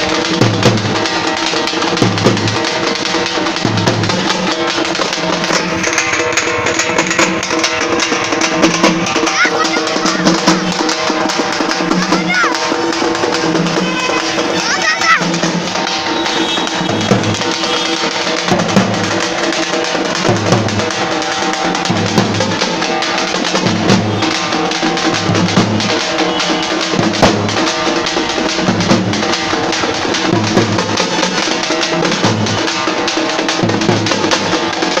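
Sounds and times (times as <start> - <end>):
frame drums playing fast rhythm: 0.0 - 35.0.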